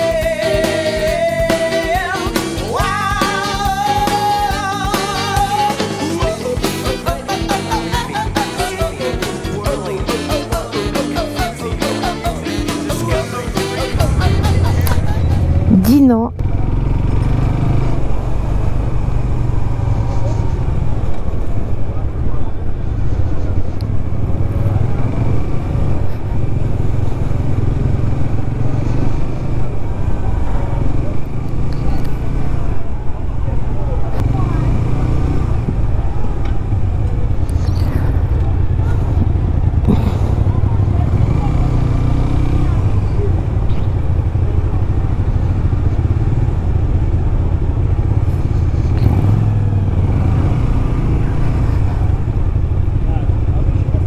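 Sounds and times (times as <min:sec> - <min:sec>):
motorcycle engine rumbling: 0:00.0 - 0:54.0
road noise: 0:00.0 - 0:54.0.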